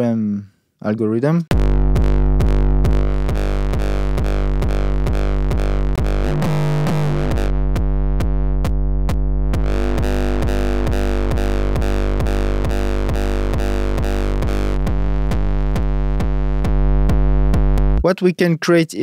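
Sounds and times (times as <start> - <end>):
distorted kick drum: 1.5 - 18.0.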